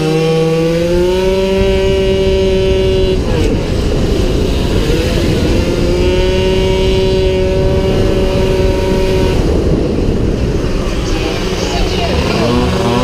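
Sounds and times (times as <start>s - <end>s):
scooter engine at high revs: 0.0s - 13.0s
wind buffeting microphone: 0.0s - 13.0s.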